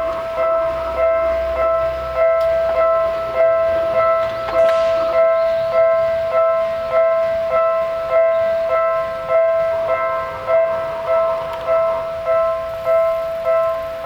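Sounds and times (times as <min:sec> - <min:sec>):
railroad crossing warning bell: 0:00.0 - 0:14.0.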